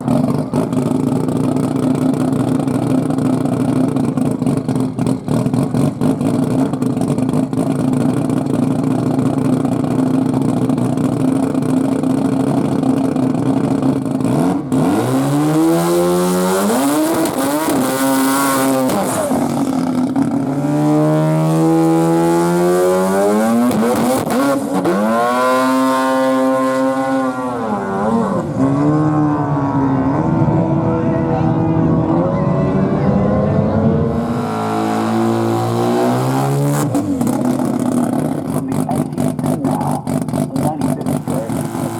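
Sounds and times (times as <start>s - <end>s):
rotary engine idling and revving: 0.0s - 41.9s.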